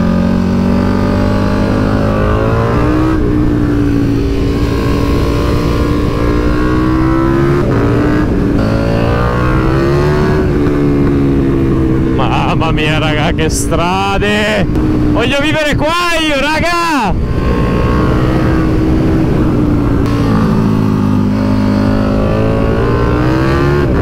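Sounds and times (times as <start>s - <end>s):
motorcycle engine accelerating: 0.0s - 15.5s, 17.2s - 24.0s.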